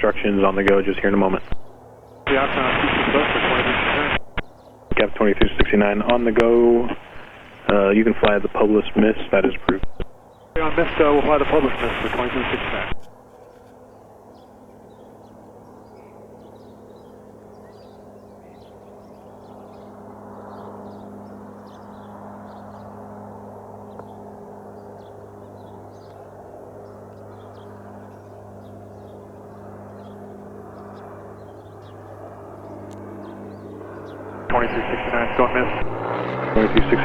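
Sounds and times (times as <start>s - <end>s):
distant propeller plane droning: 0.0s - 37.0s.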